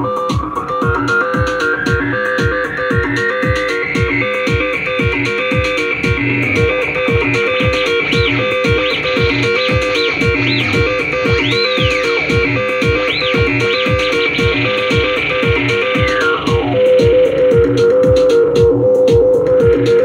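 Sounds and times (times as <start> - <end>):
drum machine kick beat: 0.0 - 20.0
high swooping synth blips: 0.0 - 20.0
synthesiser sequenced note pattern: 0.0 - 20.0.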